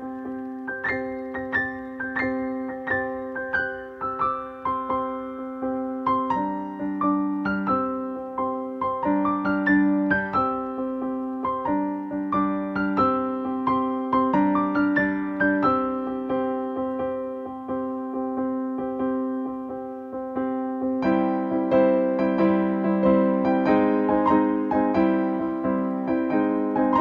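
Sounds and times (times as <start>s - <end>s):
gentle solo piano: 0.0s - 27.0s.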